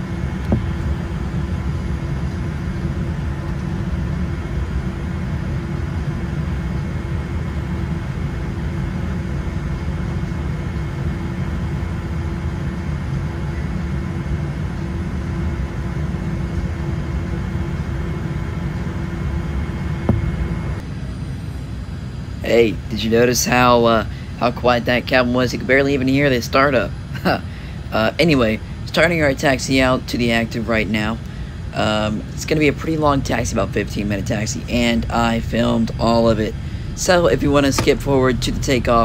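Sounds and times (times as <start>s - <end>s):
faint engine whine: 0.0s - 39.0s
muffled jet engine rumble: 0.0s - 39.0s.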